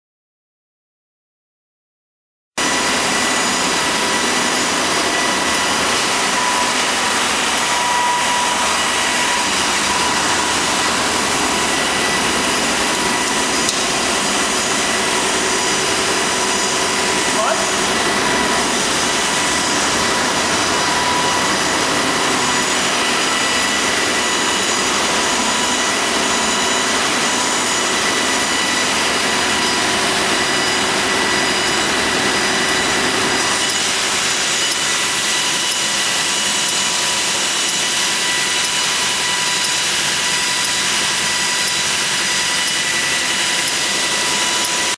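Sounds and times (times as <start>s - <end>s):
belt sanding machine whining: 2.6s - 44.9s.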